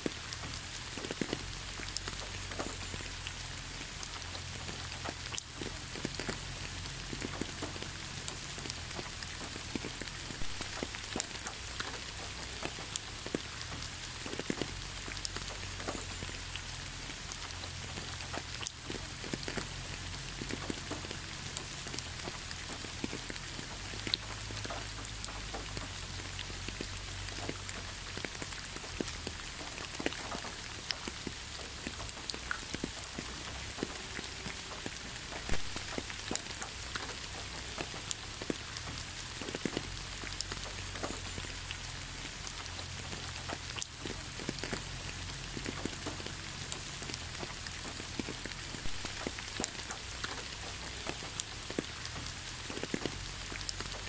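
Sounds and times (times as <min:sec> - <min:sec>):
waterfall hiss: 0:00.0 - 0:45.1, 0:45.9 - 0:54.0
small splashes and drips: 0:00.0 - 0:54.0.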